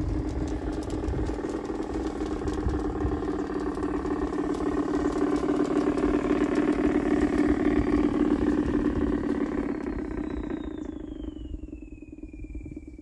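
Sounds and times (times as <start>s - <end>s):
model locomotive running on track: 0.0s - 11.8s.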